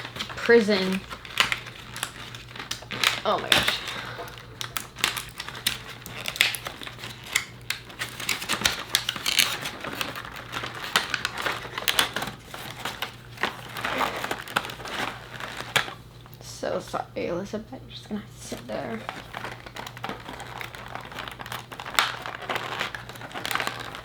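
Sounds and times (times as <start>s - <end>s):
plastic packaging crinkling and snapping: 0.0s - 16.4s, 18.5s - 24.0s.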